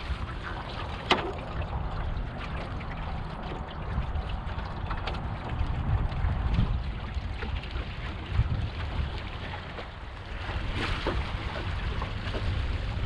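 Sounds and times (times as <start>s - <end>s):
water splashing along hull: 0.0s - 13.0s
wind on microphone: 0.0s - 13.0s.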